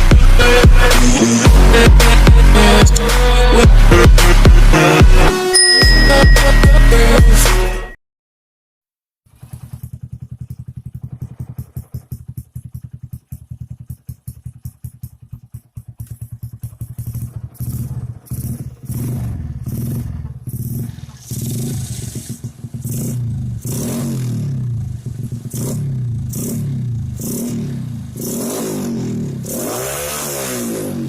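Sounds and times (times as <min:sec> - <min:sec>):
motorcycle engine idling and revving: 0:00.0 - 0:07.5, 0:09.3 - 0:31.0.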